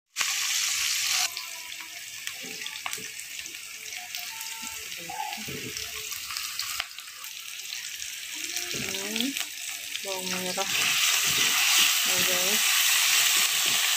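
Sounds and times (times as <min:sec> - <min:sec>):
onions sizzling in hot oil: 0:00.1 - 0:13.9.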